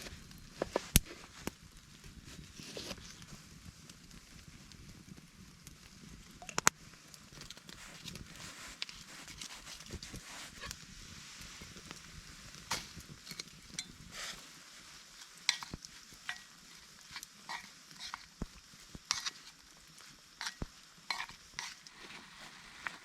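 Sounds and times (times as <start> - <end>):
food sizzling in a pot: 0.0 - 23.0.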